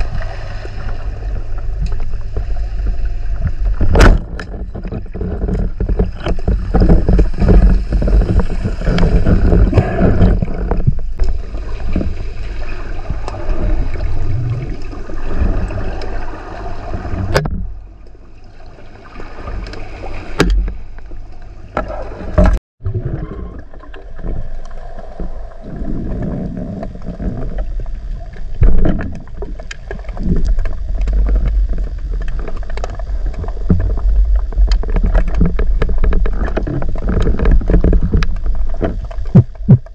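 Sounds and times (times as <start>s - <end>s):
water rushing around camera housing: 0.0s - 39.9s.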